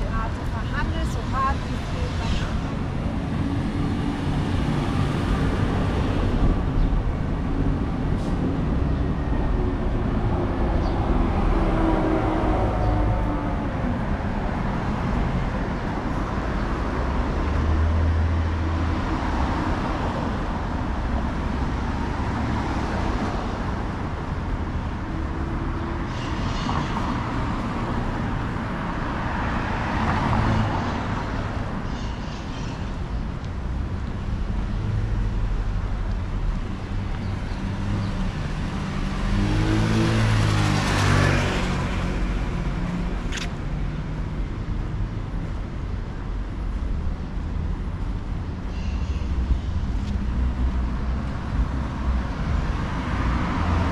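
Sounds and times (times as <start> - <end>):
passing cars: 0.0 - 53.9.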